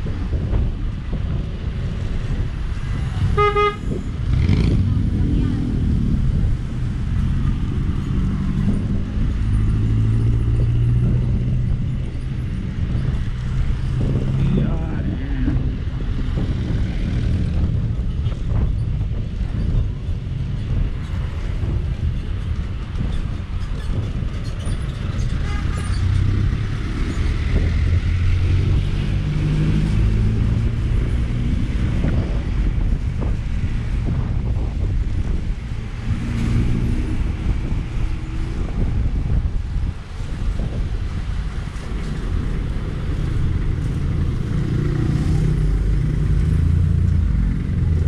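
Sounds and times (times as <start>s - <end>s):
road and wind rumble: 0.0s - 48.0s
vehicle engine hum: 0.0s - 48.0s.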